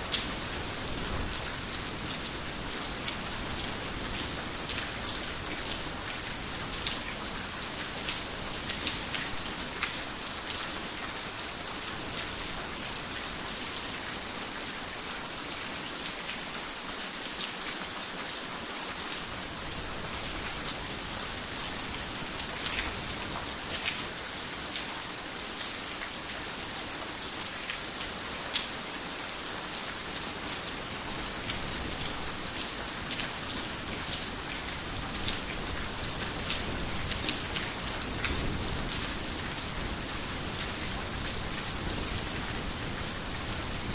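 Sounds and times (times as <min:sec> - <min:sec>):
heavy rain on roof: 0:00.0 - 0:43.9.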